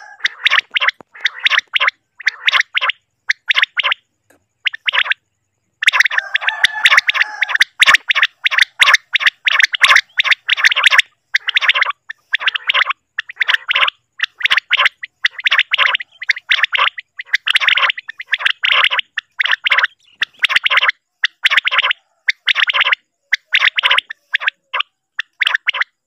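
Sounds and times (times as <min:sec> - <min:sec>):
quail calls: 0:00.0 - 0:05.2, 0:05.8 - 0:26.0.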